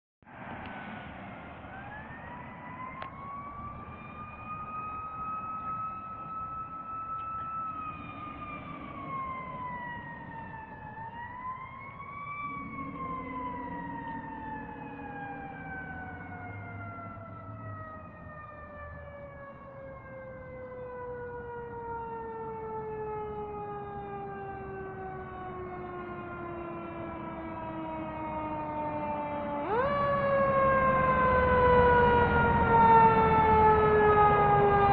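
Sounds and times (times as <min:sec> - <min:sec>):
fire engine siren wailing: 0:00.3 - 0:34.9.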